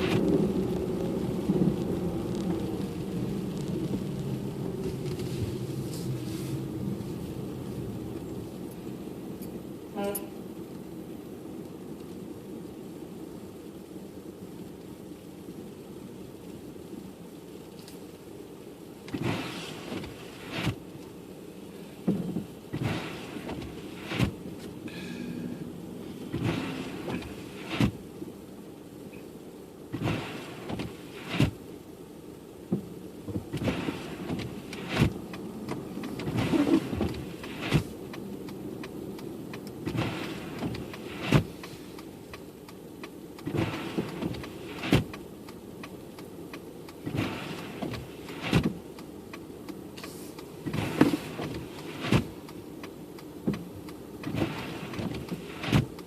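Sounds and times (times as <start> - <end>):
car engine and tyres hum: 0.0 - 56.0
windshield wipers whirring: 0.0 - 56.0.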